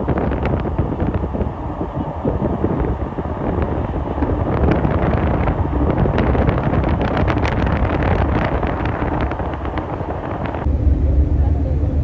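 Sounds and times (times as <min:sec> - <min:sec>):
rapid crackling: 0:00.0 - 0:10.7
steady low rumble: 0:00.0 - 0:12.0
wind buffeting microphone: 0:00.0 - 0:12.0.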